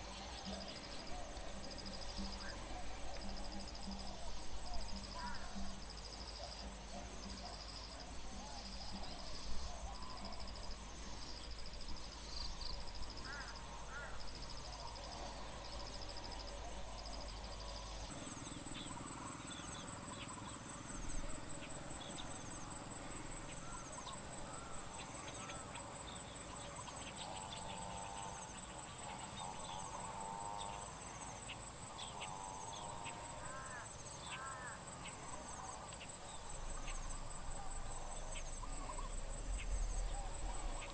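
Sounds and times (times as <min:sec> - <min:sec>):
faint low insect calls: 0:00.0 - 0:40.9
insect high continuous trill: 0:00.0 - 0:40.9
insect pulsing chirp: 0:00.0 - 0:40.9.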